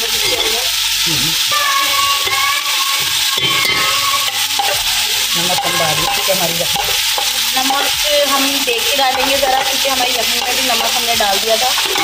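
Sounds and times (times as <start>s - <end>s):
hot oil sizzling in a pot: 0.0s - 12.0s.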